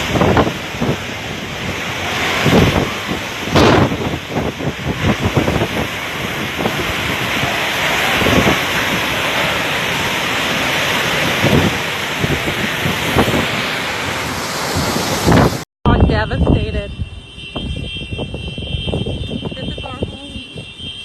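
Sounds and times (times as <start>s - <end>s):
driving rain: 0.0s - 21.0s
strong wind blowing: 0.0s - 21.0s
wind gusts hitting microphone: 0.0s - 21.0s.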